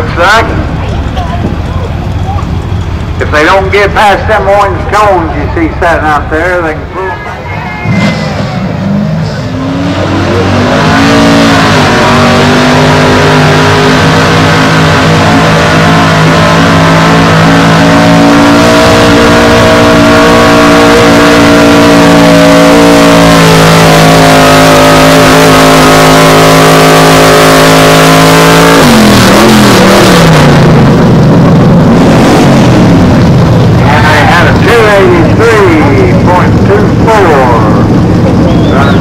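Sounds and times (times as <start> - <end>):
truck engine revving high: 0.0 - 39.0.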